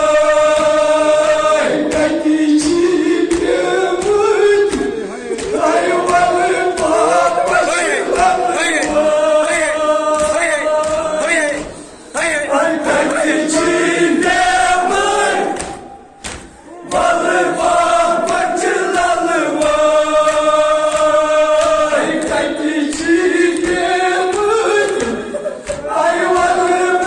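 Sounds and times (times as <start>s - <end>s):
men chanting a lament: 0.0s - 27.0s
steady beat of sharp strikes: 0.0s - 27.0s.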